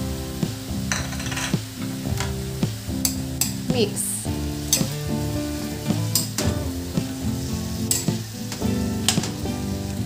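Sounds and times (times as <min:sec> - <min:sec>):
vegetables sizzling in wok: 0:00.0 - 0:10.0.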